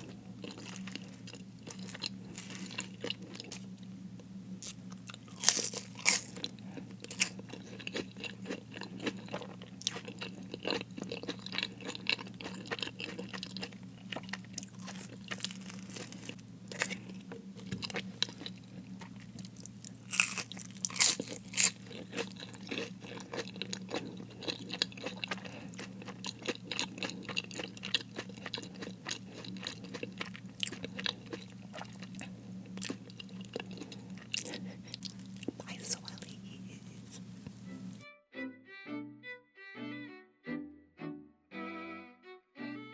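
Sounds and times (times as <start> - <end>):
chewing crispy fried food: 0.0 - 38.0.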